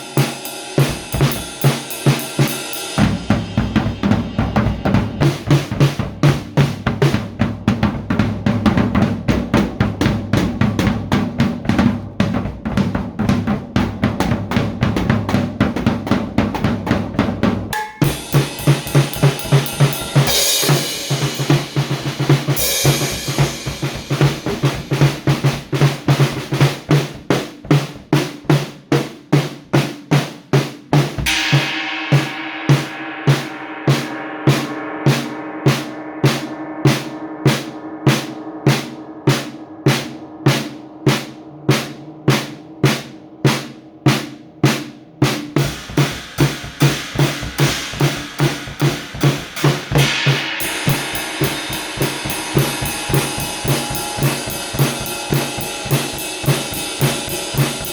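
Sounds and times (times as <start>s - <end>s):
cymbal crashes: 0.0s - 12.6s, 13.5s - 26.9s, 31.2s - 57.9s
drum kit fast beat: 0.0s - 57.9s.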